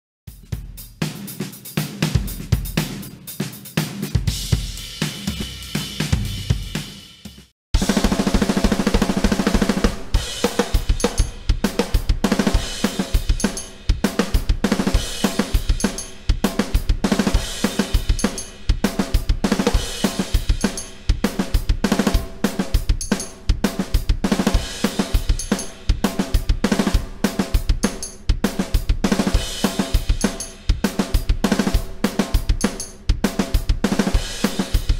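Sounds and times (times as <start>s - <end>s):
electronic drum kit playing: 0.3s - 34.9s.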